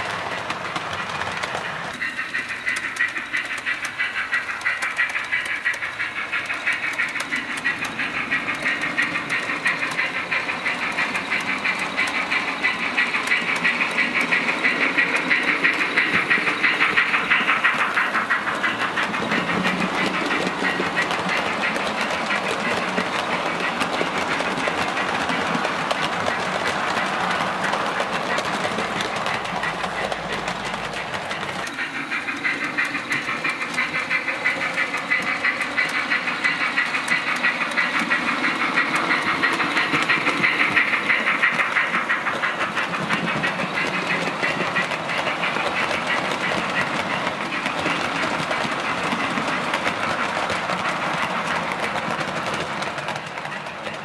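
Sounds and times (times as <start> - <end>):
model train running: 0.0 - 54.0
wheels clicking over rails: 0.0 - 54.0.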